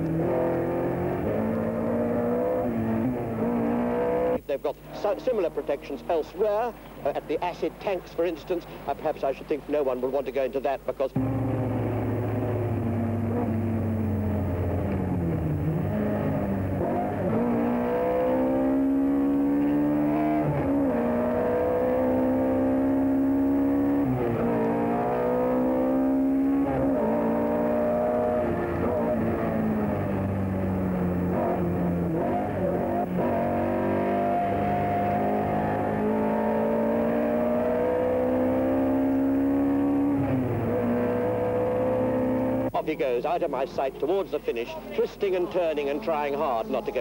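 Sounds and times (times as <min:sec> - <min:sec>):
car engine accelerating: 0:00.0 - 0:06.4, 0:11.2 - 0:42.8.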